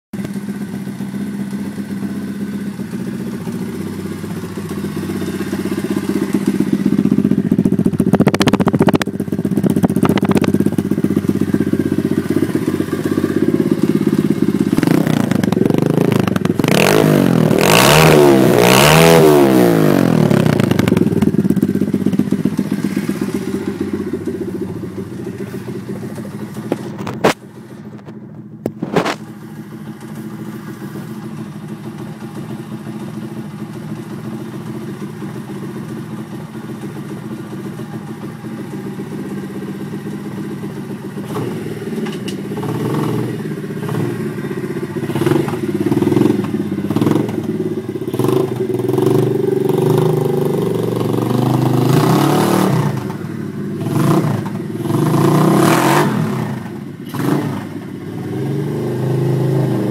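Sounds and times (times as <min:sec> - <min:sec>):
motorcycle engine running: 0:00.2 - 0:59.9.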